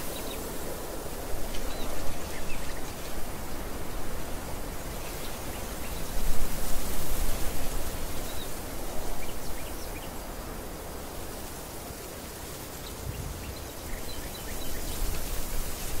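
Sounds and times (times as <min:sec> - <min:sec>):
steady outdoor hiss: 0:00.0 - 0:16.0
wind gusting against microphone: 0:00.0 - 0:16.0.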